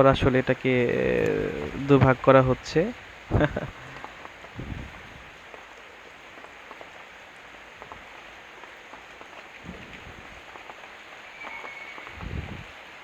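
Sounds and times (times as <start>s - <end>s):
heavy rain hissing: 0.0s - 13.0s
ticks of raindrops: 0.0s - 13.0s.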